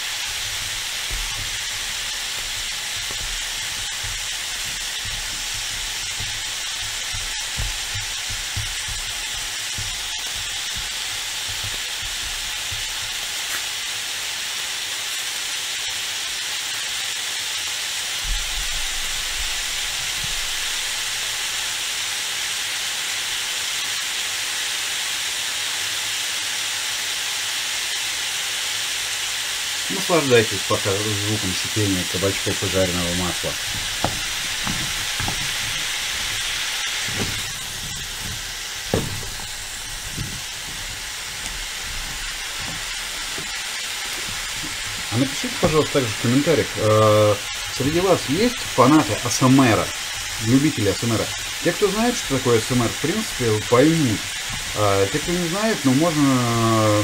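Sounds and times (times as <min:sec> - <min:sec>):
zucchini sizzling in oil: 0:00.0 - 0:57.0.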